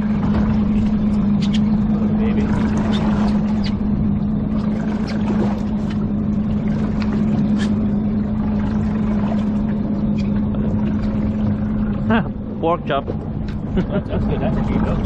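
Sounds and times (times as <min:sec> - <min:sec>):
boat engine humming: 0:00.0 - 0:15.0
water rushing: 0:00.0 - 0:15.0.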